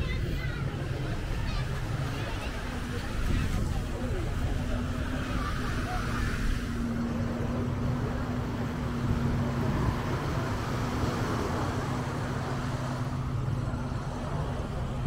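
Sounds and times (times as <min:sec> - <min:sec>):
engine hum: 0:00.0 - 0:15.0
outdoor noise: 0:00.0 - 0:15.0.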